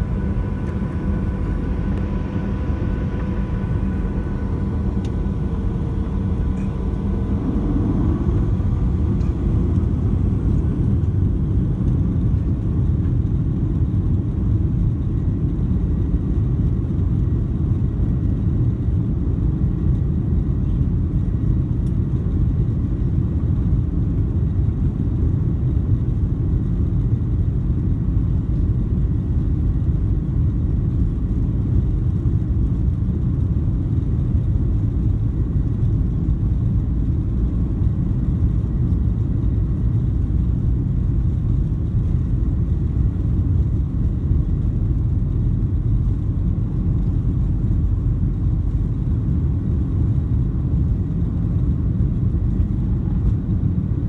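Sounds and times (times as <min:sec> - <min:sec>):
airplane cabin low rumble: 0:00.0 - 0:54.0
faint steady whine: 0:00.0 - 0:54.0.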